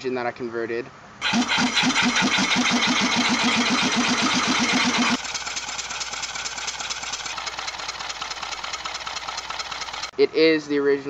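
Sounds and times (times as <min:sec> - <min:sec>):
air-powered engine beating: 0:01.2 - 0:10.1
fast ticking engine beat: 0:01.2 - 0:10.2.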